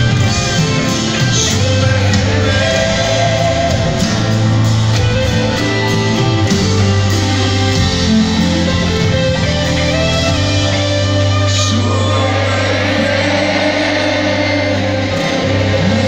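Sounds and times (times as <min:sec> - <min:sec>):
held bass notes: 0:00.0 - 0:16.0
live band playing: 0:00.0 - 0:16.0.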